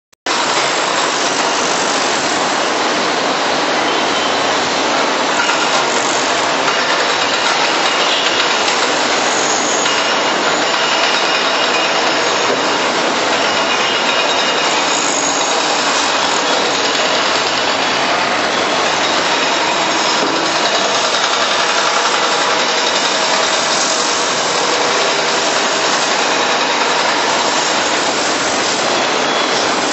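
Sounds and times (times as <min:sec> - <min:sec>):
excavator running: 0:00.3 - 0:29.9.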